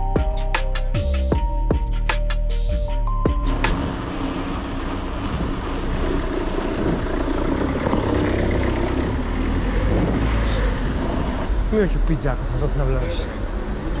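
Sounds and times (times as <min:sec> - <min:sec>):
road and traffic noise: 0:02.1 - 0:14.0.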